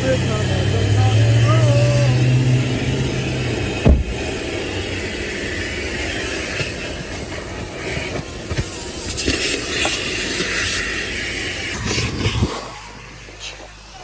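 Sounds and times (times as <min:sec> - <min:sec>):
vacuum hose suction rush: 0:00.0 - 0:14.0.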